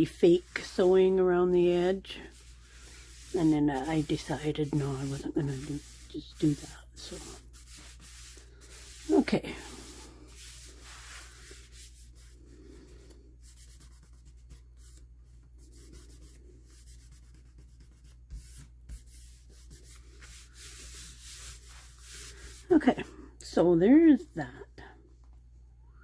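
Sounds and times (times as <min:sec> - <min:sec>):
paper rubbing and rustling: 0:00.0 - 0:22.7.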